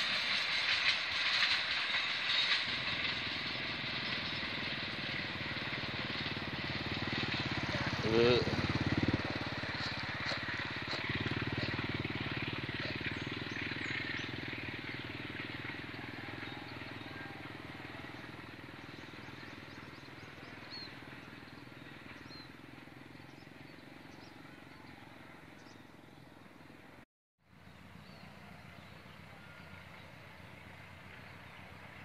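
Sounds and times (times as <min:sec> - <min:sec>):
diesel locomotive drone: 0:00.0 - 0:32.0.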